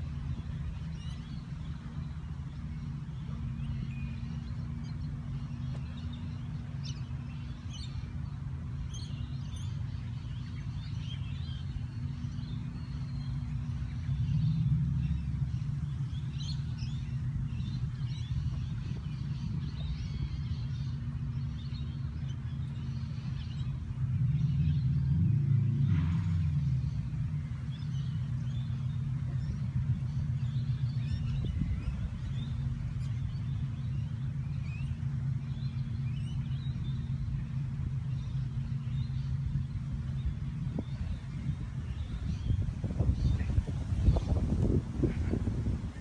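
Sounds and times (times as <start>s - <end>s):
birds chirping: 0.0s - 46.0s
road traffic rumble: 0.0s - 46.0s
vehicle passing: 0.0s - 46.0s.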